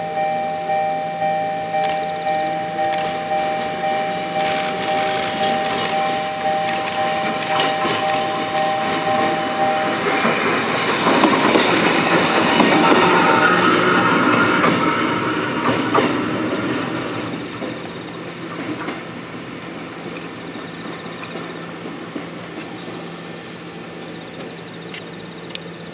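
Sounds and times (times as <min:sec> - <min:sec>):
electric rail car whine: 0:00.0 - 0:25.9
wheels clacking over rail joints: 0:02.8 - 0:25.9.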